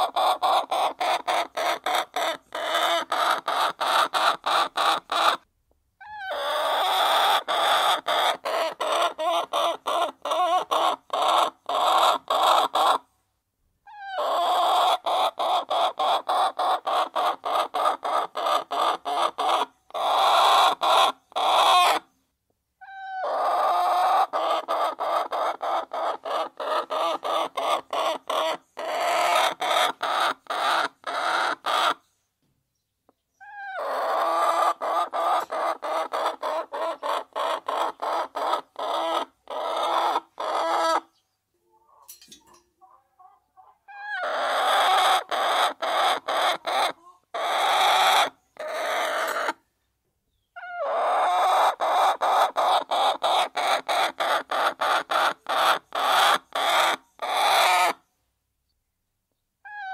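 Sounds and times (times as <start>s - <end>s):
hen clucking: 0.0s - 5.4s, 6.0s - 13.1s, 13.9s - 22.1s, 22.8s - 32.0s, 33.1s - 49.6s, 50.5s - 58.1s, 59.6s - 59.9s.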